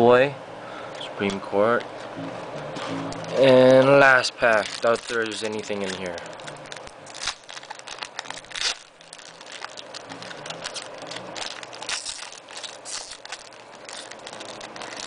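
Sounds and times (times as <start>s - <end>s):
foil wrapper crinkling and tearing: 2.8s - 15.0s.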